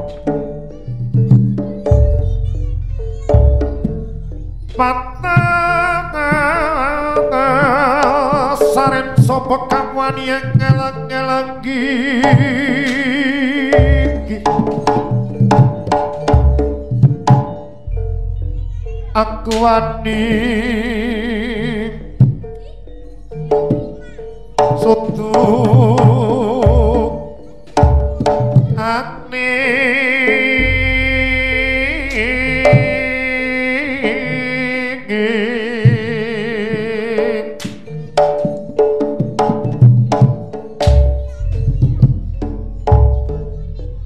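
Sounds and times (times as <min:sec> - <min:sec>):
ringing metal chimes: 0:00.0 - 0:34.4, 0:37.4 - 0:44.0
gamelan music: 0:00.0 - 0:44.0
sliding melody with vibrato: 0:00.0 - 0:44.0.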